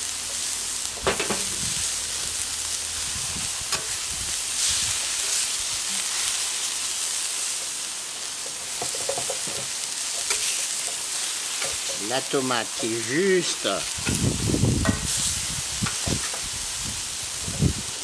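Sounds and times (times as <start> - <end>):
patties sizzling on hot plate: 0.0 - 18.0.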